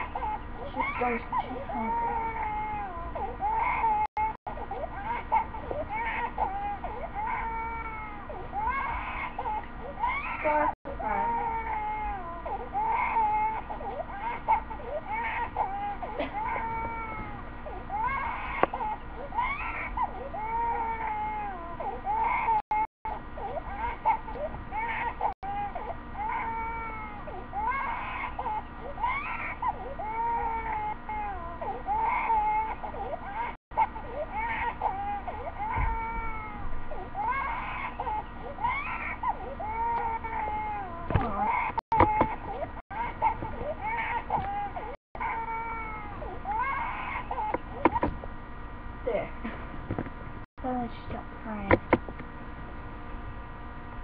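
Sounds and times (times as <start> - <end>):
baby crying: 0.0 - 48.0.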